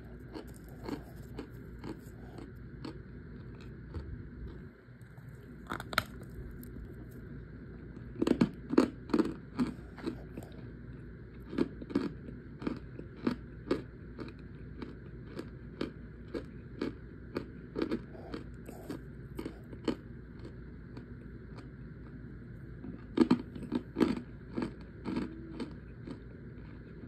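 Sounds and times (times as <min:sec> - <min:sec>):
crunching of cornstarch chunks: 0:00.0 - 0:27.0.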